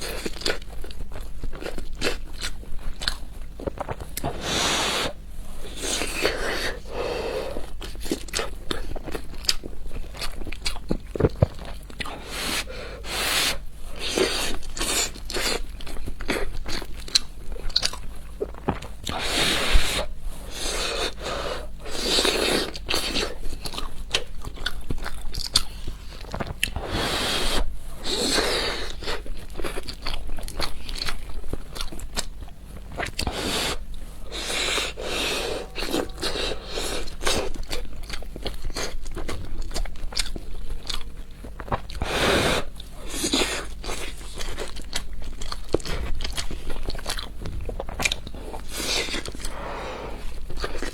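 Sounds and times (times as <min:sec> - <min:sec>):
crunchy bites and chewing: 0:00.0 - 0:06.8, 0:07.7 - 0:12.6, 0:13.6 - 0:27.4, 0:28.1 - 0:49.6, 0:50.2 - 0:50.9.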